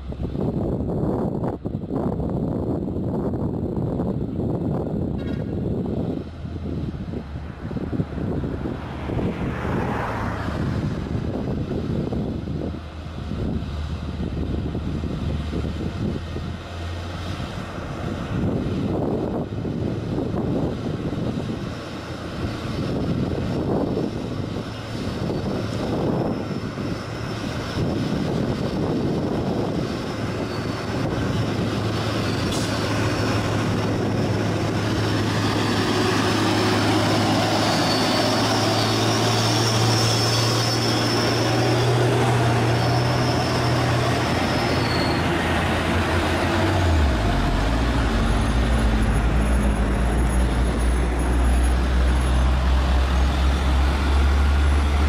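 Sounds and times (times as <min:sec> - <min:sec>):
diesel truck engines labouring: 0:00.0 - 0:55.0.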